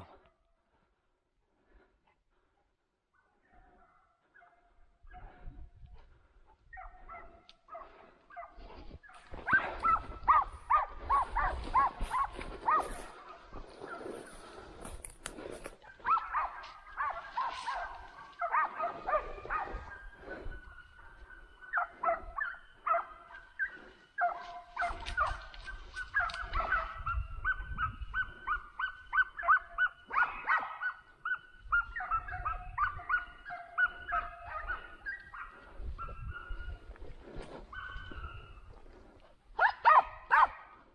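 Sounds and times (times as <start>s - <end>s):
dogs baying and yelping: 6.5s - 14.6s, 15.7s - 40.7s.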